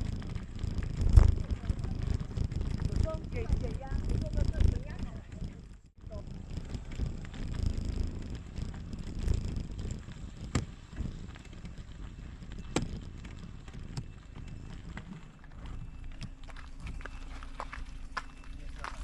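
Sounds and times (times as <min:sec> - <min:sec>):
wind buffeting microphone: 0:00.0 - 0:17.2
bicycle tyres rolling on rough road: 0:00.0 - 0:19.0
bike and stones clicking: 0:00.0 - 0:19.0.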